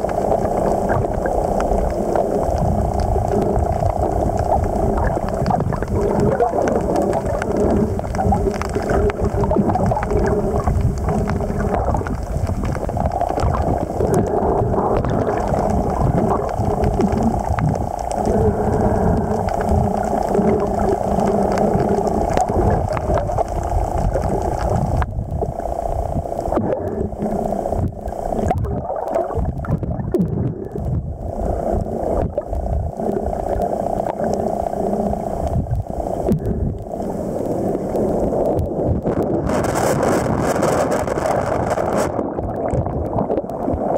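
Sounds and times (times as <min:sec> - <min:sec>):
constant hum: 0:00.0 - 0:43.9.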